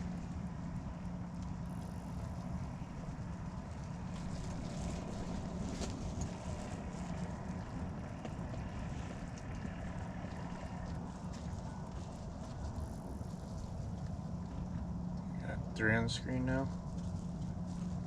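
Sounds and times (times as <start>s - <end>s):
faint constant hum: 0.0s - 18.0s
wind buffeting microphone: 0.0s - 18.0s.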